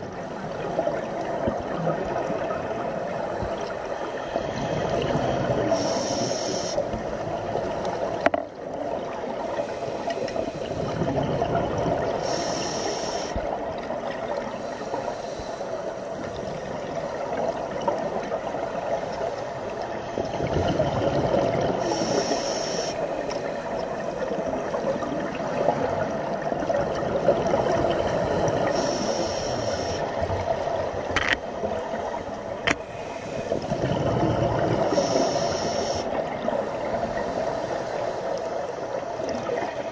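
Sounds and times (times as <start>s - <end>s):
scuba exhaust bubbles hissing: 0.0s - 8.1s, 8.9s - 31.1s, 32.0s - 39.9s
muffled underwater rush: 0.0s - 39.9s.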